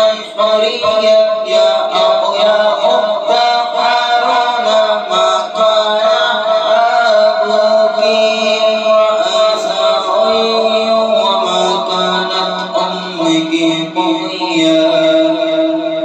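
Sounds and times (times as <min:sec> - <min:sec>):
person chanting devotionally: 0:00.0 - 0:16.0.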